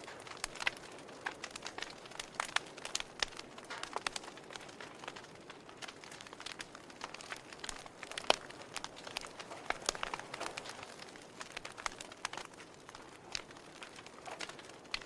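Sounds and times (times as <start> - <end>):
fire popping and snapping: 0.0 - 15.0
wood fire crackling: 0.0 - 15.0.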